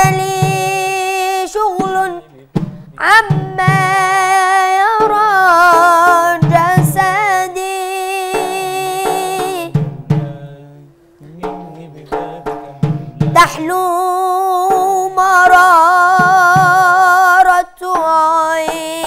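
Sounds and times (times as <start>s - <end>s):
boy chanting a hymn: 0.0s - 9.8s, 12.8s - 19.0s
drum strokes: 0.0s - 19.0s.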